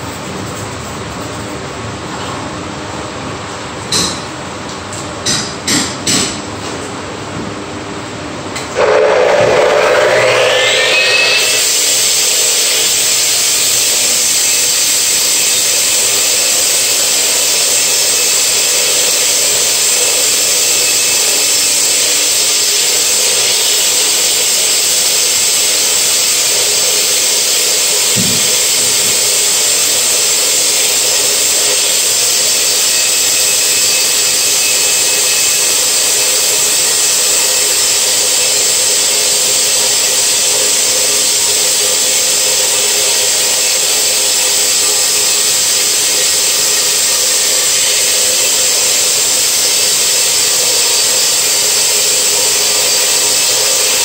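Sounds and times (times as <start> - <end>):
power cutter cutting concrete: 8.8 - 54.0.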